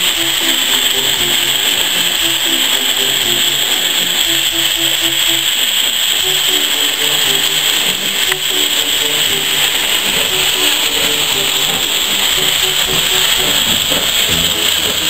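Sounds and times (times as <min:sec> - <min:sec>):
loud steady hiss: 0:00.0 - 0:15.0
simple background tune: 0:00.0 - 0:15.0.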